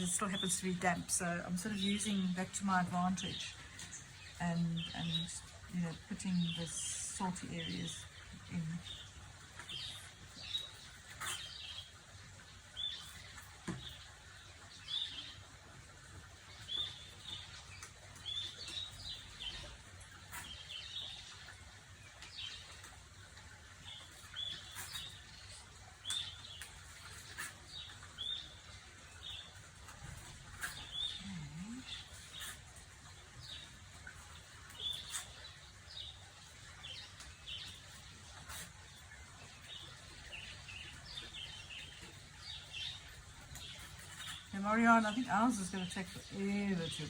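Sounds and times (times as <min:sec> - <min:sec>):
small bird chirping: 0:00.0 - 0:15.4, 0:23.8 - 0:47.0.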